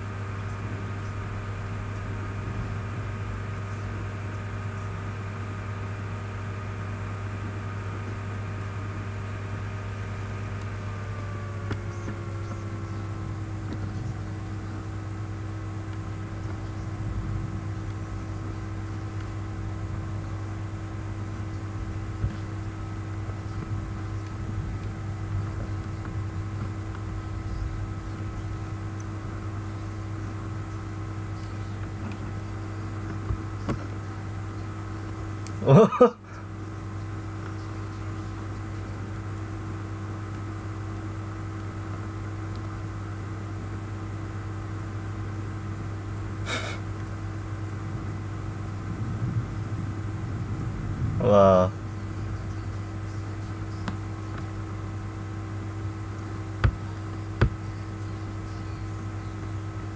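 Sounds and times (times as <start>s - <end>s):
low electrical hum with hiss: 0.0s - 59.9s.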